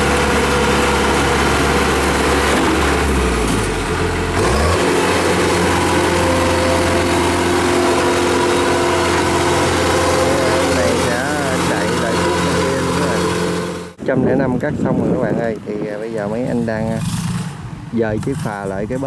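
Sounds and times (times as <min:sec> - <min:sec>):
combine harvester engine humming: 0:00.0 - 0:19.0.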